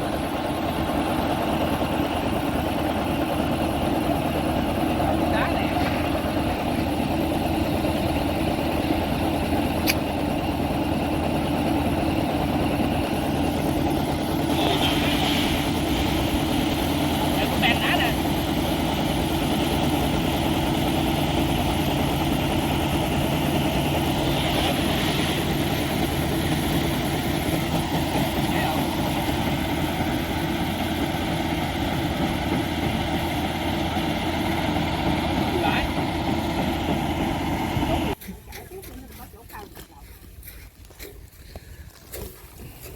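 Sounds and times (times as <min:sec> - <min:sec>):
harvester engine humming: 0:00.0 - 0:42.9.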